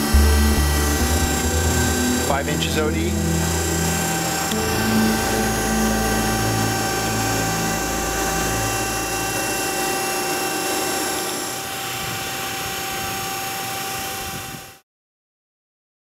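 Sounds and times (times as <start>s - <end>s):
low hum: 0.0s - 14.1s
grinding machine high whine: 0.0s - 14.8s.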